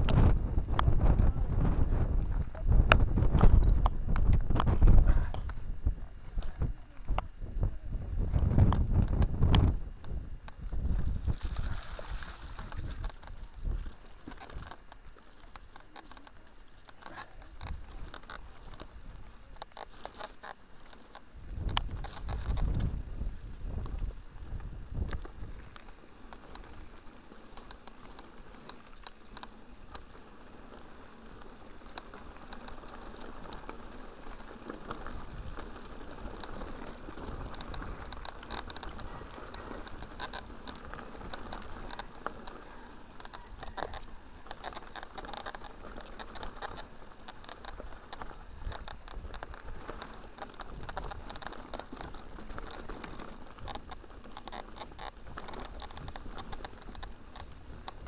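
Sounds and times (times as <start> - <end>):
bike rattling: 0.0 - 58.0
bike tyres on dirt trail: 0.0 - 58.0
clicks and knocks over stones: 8.2 - 58.0.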